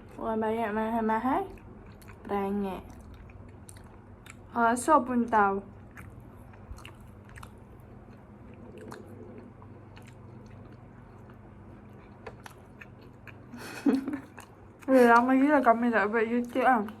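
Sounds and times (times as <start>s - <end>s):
steady low hum: 0.0s - 17.0s
chewing and crunching food: 1.0s - 17.0s.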